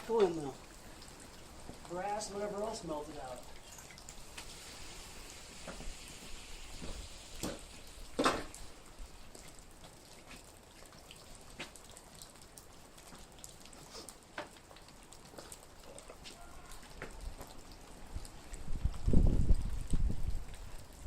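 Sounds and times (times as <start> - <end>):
water dripping into a puddle: 0.0 - 21.0.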